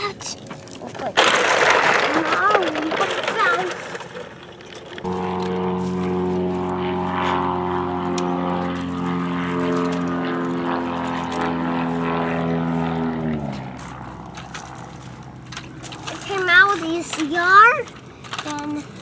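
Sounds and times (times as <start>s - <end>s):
motor drone: 2.8s - 19.0s.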